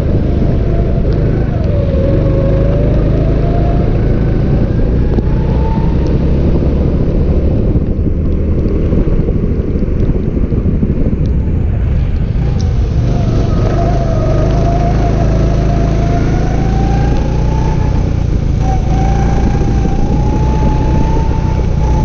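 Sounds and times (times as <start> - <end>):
go-kart engine running: 0.0 - 22.0
wind buffeting on microphone: 0.0 - 22.0.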